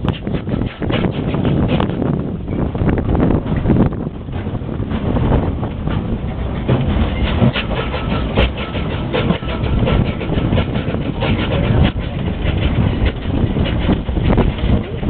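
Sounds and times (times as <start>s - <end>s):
tram cars clattering and rattling: 0.0s - 15.0s
tram rumbling: 0.0s - 15.0s.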